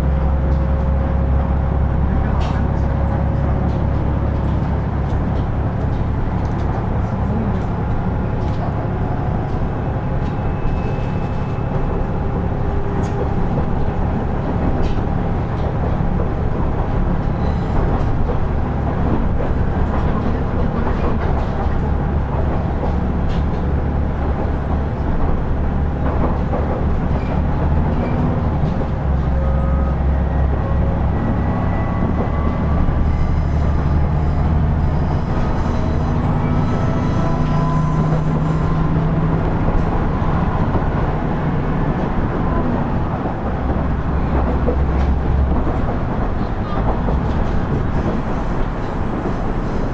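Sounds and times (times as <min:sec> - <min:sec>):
diesel engine hum: 0:00.0 - 0:49.9
wheel-on-rail noise: 0:00.1 - 0:49.9.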